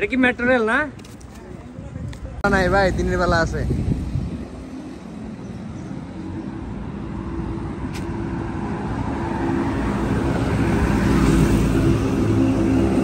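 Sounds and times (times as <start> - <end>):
street traffic: 0.0 - 13.0
vehicle engine approaching: 2.5 - 13.0.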